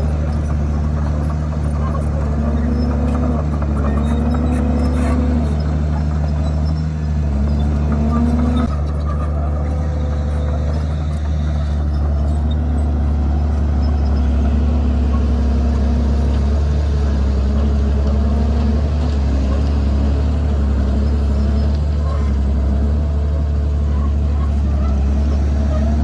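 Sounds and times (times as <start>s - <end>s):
bulldozer diesel engine droning: 0.0s - 26.0s.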